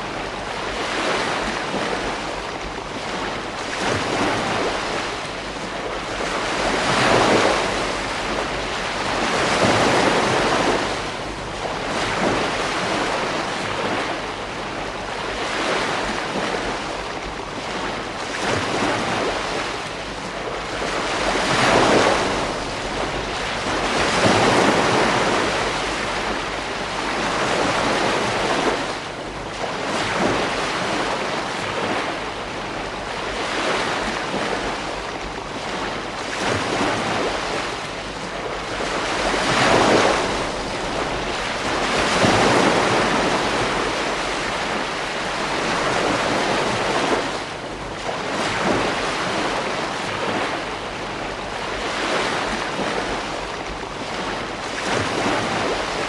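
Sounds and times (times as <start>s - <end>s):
ocean waves breaking: 0.0s - 56.0s
wind on microphone: 0.0s - 56.0s.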